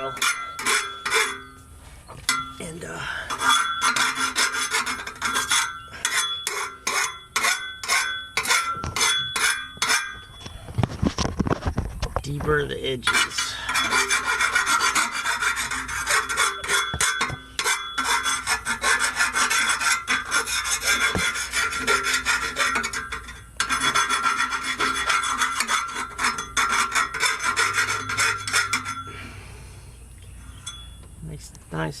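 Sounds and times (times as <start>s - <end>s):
hand file scraping metal pipe: 0.0s - 1.6s, 2.3s - 10.4s, 13.0s - 29.3s.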